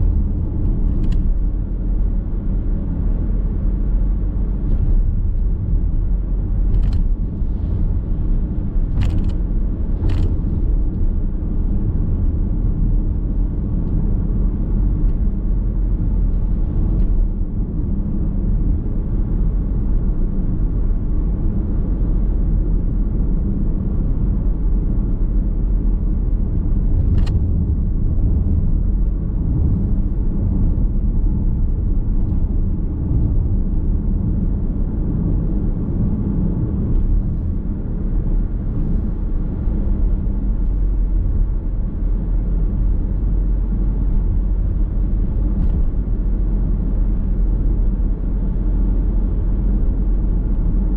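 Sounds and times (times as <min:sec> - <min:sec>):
car road noise from inside: 0:00.0 - 0:50.9.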